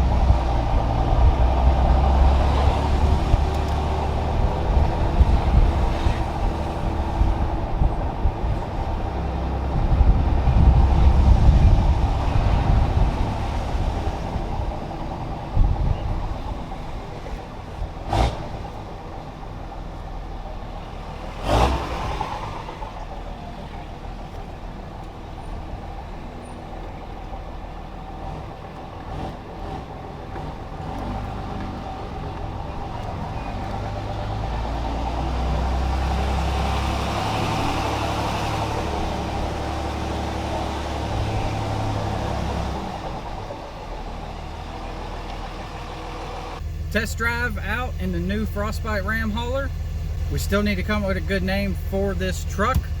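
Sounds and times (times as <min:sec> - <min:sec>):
diesel truck engine rumbling: 0:00.0 - 0:53.0.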